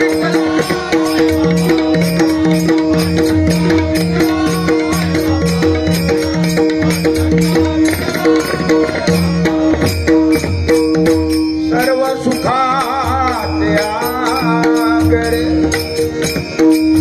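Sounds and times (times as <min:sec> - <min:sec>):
drum beat: 0:00.0 - 0:17.0
small hand cymbals: 0:00.0 - 0:17.0.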